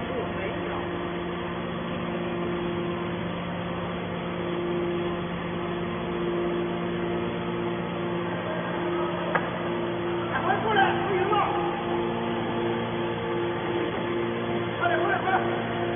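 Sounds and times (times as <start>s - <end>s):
hydraulic motor and pump drone: 0.0s - 15.9s.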